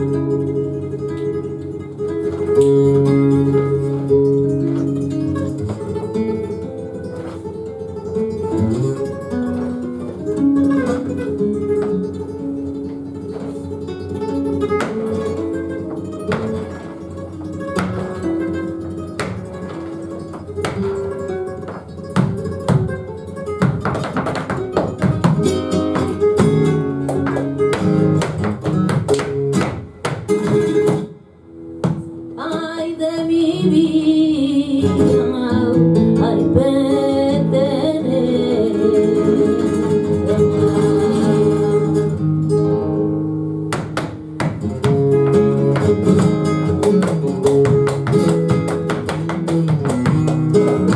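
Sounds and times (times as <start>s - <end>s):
flamenco guitar playing: 0.0s - 50.9s.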